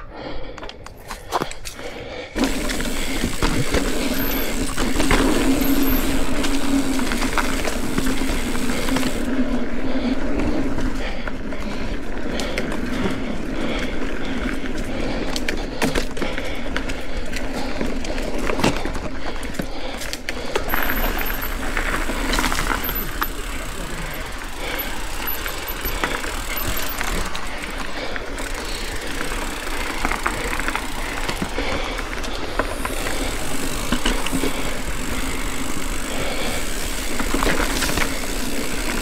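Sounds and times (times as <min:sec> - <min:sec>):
bike tyres rolling over dirt: 0:01.0 - 0:39.0
bike rattling and knocking: 0:02.4 - 0:39.0.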